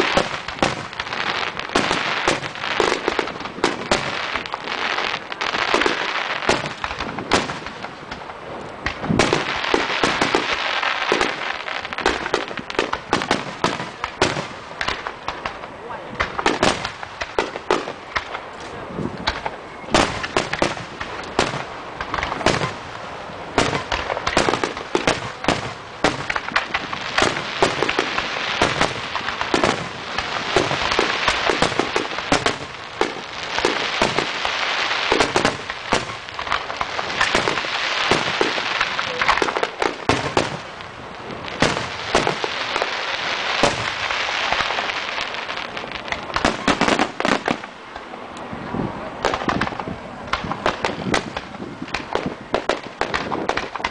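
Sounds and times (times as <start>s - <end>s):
fireworks bangs and pops: 0.0s - 53.9s
fireworks crackling: 0.0s - 53.9s.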